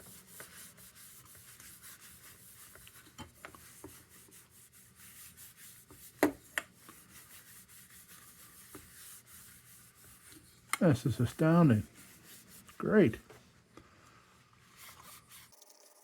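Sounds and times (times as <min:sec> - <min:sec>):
cloth polishing plastic lens: 0:00.0 - 0:13.3, 0:14.6 - 0:15.6.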